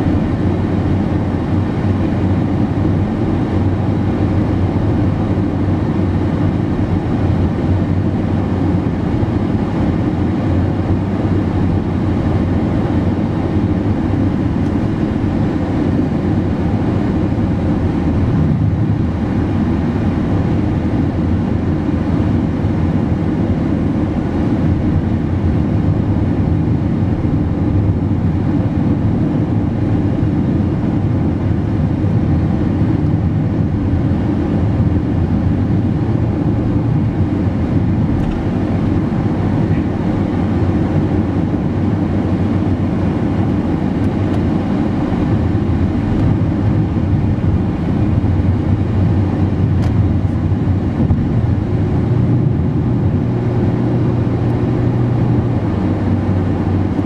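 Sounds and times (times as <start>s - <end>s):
car driving at highway speed: 0.0s - 57.0s.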